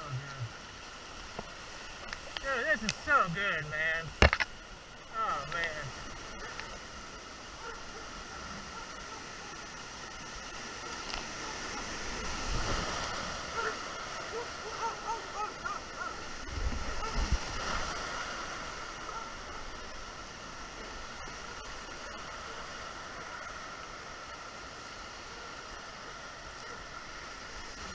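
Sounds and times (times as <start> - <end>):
creek water rushing and splashing: 0.0 - 27.9.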